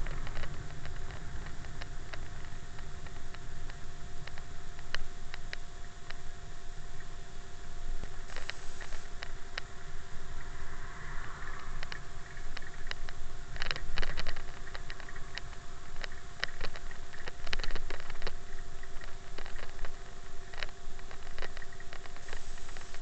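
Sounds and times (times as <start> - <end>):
faint steady whine: 0.0 - 23.0
low wind rumble: 0.0 - 23.0.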